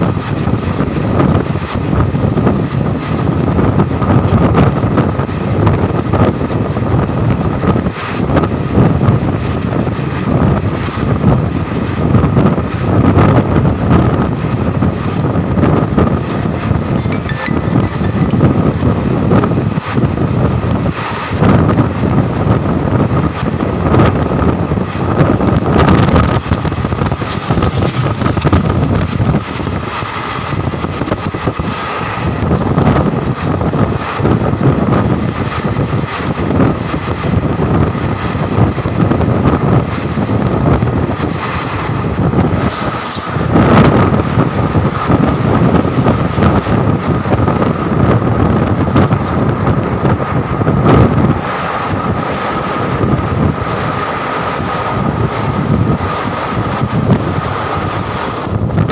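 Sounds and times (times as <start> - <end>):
rush of air: 0.0 - 58.9
train rumbling on track: 0.0 - 58.9
wheels rattling and knocking: 0.0 - 58.9.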